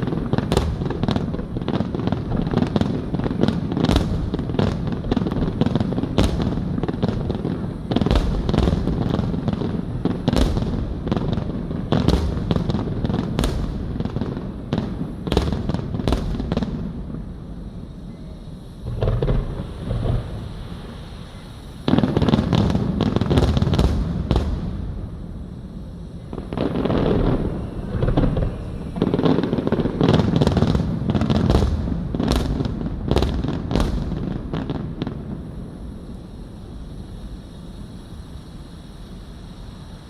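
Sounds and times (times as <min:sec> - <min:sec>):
firework shells bursting: 0:00.0 - 0:38.5.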